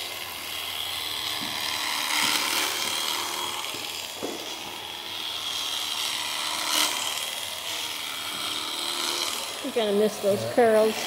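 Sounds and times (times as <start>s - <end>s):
electric shears cutting fleece: 0.0s - 11.0s.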